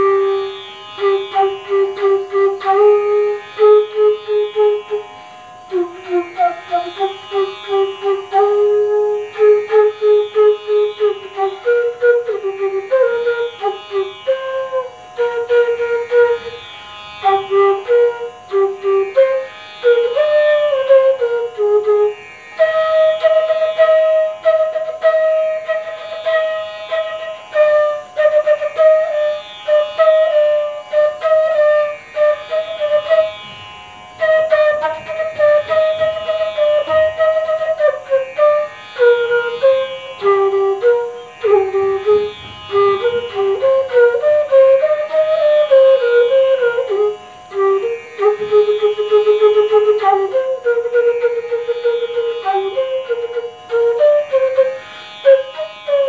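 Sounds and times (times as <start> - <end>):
bamboo flute playing quick runs: 0.0 - 16.6, 17.2 - 56.0.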